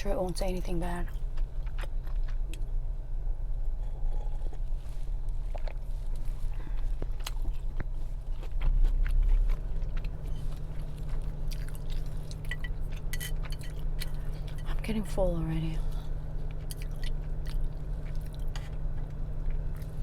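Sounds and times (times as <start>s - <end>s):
steady low hum: 0.0s - 20.0s
chewing and biting food: 1.1s - 2.8s, 3.9s - 14.8s, 15.8s - 20.0s.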